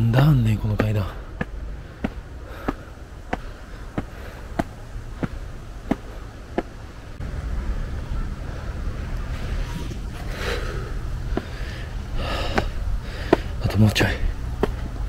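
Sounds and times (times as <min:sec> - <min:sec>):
footsteps climbing steps: 0:00.0 - 0:07.2, 0:09.2 - 0:15.0
low rumble: 0:00.0 - 0:15.0.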